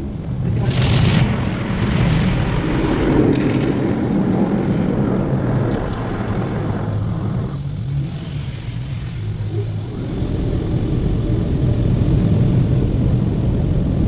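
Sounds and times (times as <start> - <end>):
car wash machinery rushing: 0.0 - 13.0.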